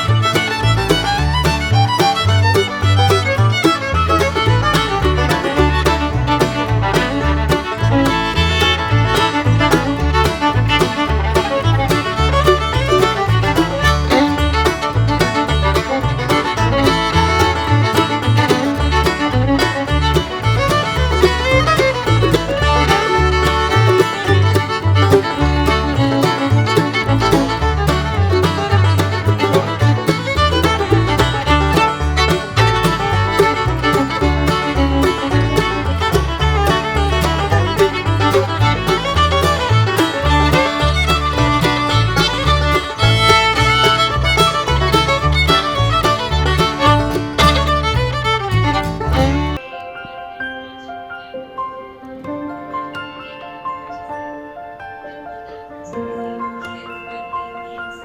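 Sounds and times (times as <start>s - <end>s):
upbeat fiddle and banjo music: 0.0s - 49.7s.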